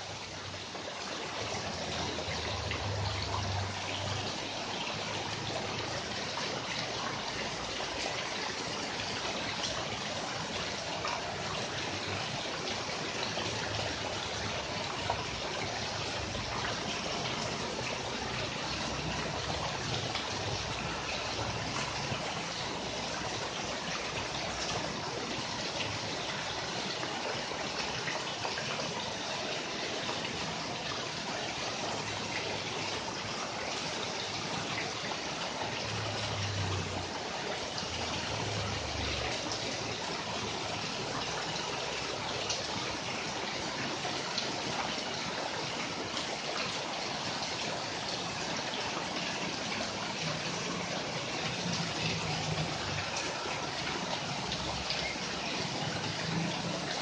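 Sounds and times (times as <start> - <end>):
rain on leaves: 0.0 - 57.0.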